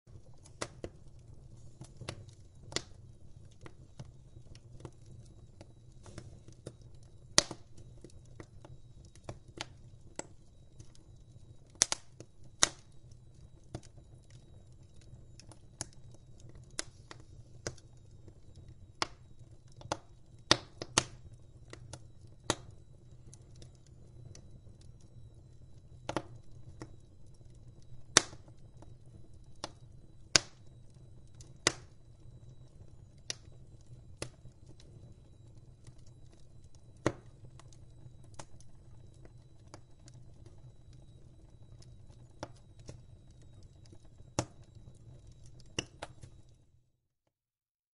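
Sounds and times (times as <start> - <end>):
burning wood crackling: 0.1 - 46.6.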